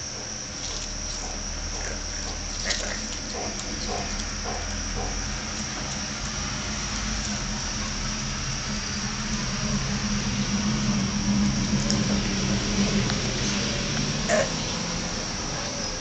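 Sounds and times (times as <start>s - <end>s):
cricket trilling: 0.0s - 16.0s
low hum: 0.0s - 16.0s.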